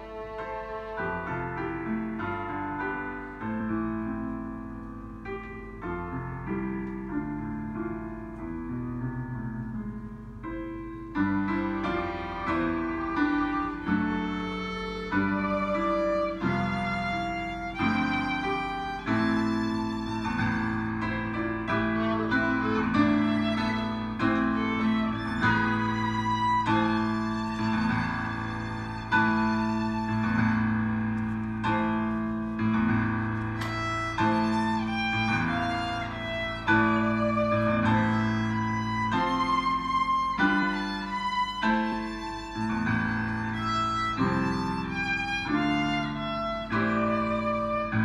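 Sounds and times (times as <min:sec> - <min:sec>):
bowed violin melody: 0:00.0 - 0:04.1, 0:11.1 - 0:48.0.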